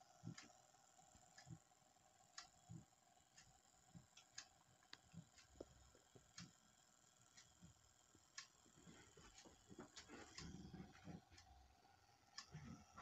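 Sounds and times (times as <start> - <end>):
light uneven ticks: 0.0 - 13.0.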